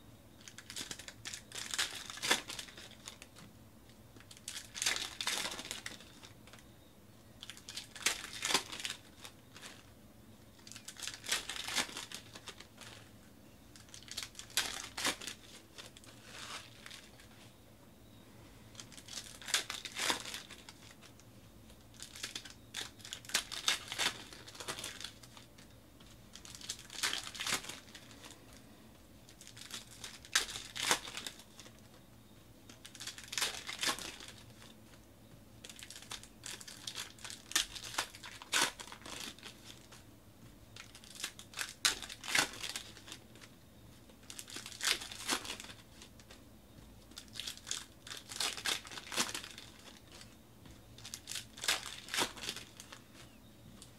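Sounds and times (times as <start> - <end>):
wrappers crinkling: 0.4 - 3.4, 4.2 - 6.6, 7.4 - 9.9, 10.6 - 13.1, 13.8 - 17.4, 18.7 - 21.2, 21.9 - 25.7, 26.3 - 28.4, 29.3 - 32.0, 32.7 - 35.0, 35.6 - 40.0, 40.8 - 46.4, 47.1 - 50.4, 51.0 - 53.9.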